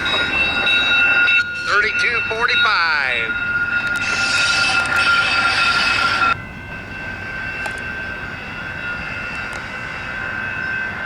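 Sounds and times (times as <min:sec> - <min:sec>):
high-pitched ringing tones: 0:00.0 - 0:11.0
train wheels rolling on rails: 0:00.0 - 0:11.0.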